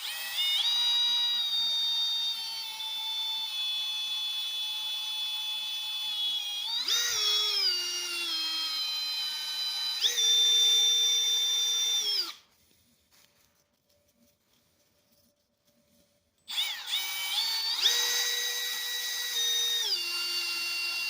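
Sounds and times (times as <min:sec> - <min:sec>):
power tool motor whining: 0:00.0 - 0:12.5, 0:16.5 - 0:21.0.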